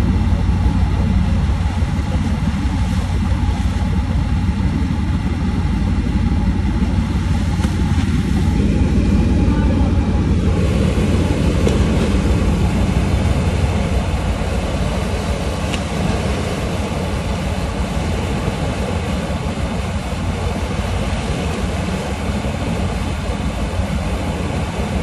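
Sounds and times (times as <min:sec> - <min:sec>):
ship rumble and rush: 0:00.0 - 0:25.0.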